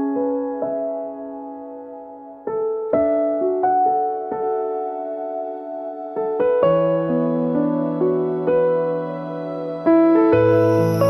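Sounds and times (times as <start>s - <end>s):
soft electric piano: 0.0s - 11.0s.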